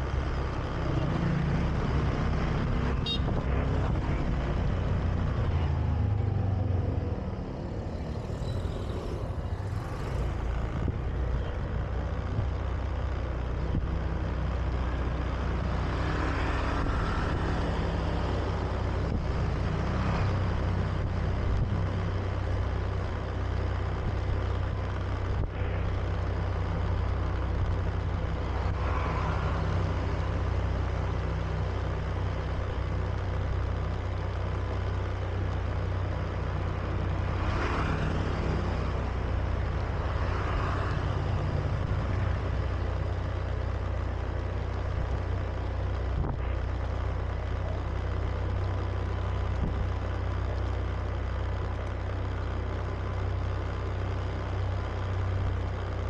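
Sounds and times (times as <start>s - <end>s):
scooter engine humming: 0.0s - 56.0s
wind and road noise: 0.0s - 56.0s.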